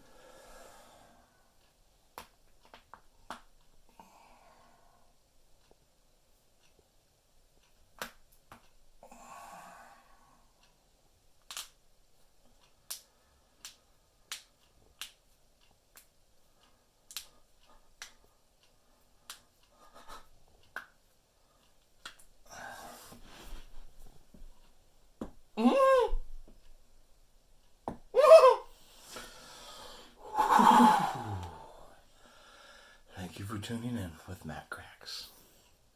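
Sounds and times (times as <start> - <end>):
soft hiss: 0.0 - 25.6, 28.6 - 35.9.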